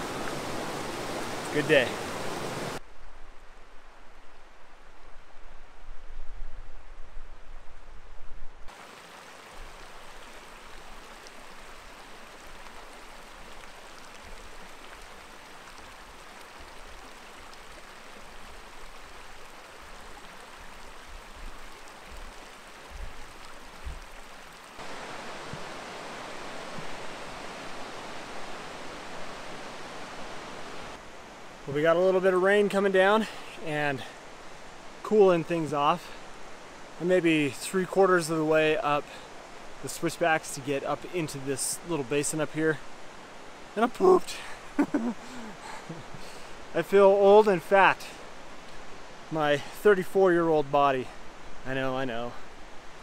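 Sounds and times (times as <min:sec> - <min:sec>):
water flowing over rocks: 0:00.0 - 0:02.8, 0:08.7 - 0:53.0.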